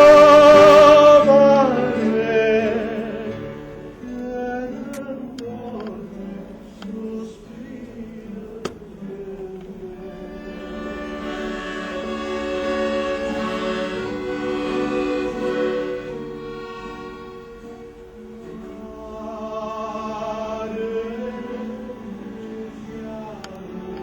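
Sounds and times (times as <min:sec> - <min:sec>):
classical music with held notes: 0:00.0 - 0:24.0.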